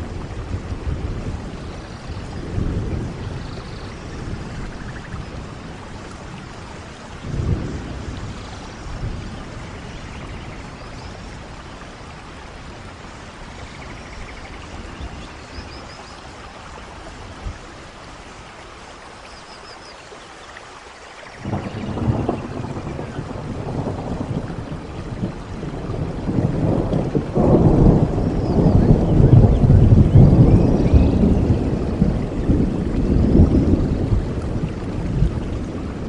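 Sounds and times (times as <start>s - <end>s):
low thunder rumbling: 0.0s - 16.0s, 21.4s - 36.0s
steady rain falling: 0.0s - 36.0s.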